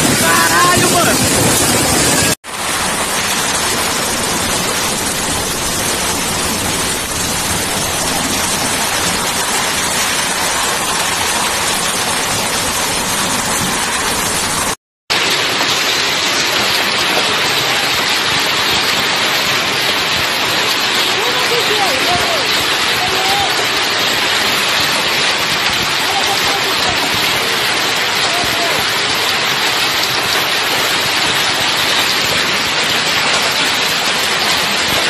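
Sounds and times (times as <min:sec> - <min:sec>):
heavy rain and hail: 0:00.0 - 0:35.0.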